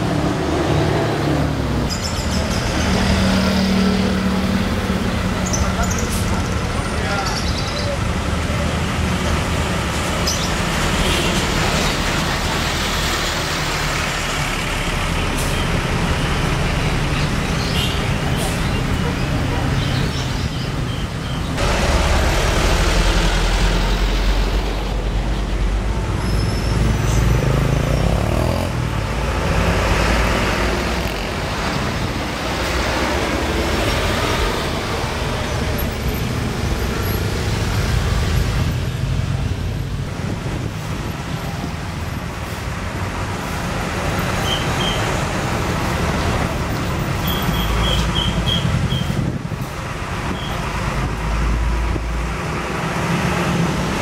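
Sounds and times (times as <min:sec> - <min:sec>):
bus and truck engines rumbling: 0:00.0 - 0:54.0
traffic noise: 0:00.0 - 0:54.0.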